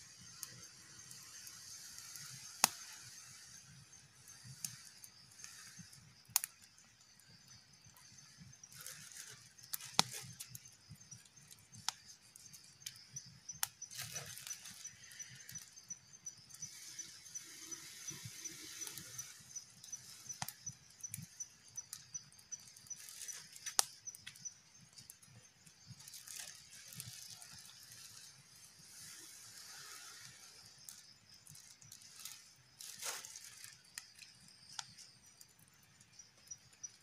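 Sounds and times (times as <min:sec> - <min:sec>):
faint high-pitched ticking: 0:00.0 - 0:37.0.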